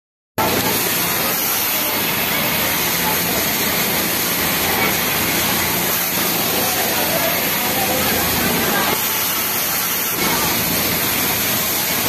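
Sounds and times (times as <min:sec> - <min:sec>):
industrial sewing machines running: 0:00.4 - 0:12.0.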